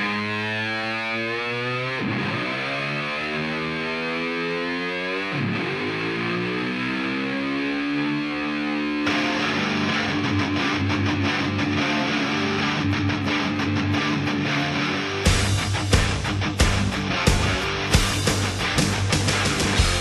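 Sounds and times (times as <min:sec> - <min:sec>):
distorted electric guitar music: 0:00.0 - 0:20.0.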